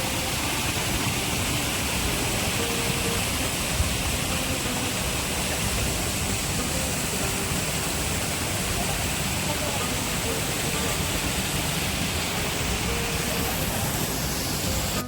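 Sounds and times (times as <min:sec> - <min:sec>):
water rushing down waterfall: 0:00.0 - 0:15.0.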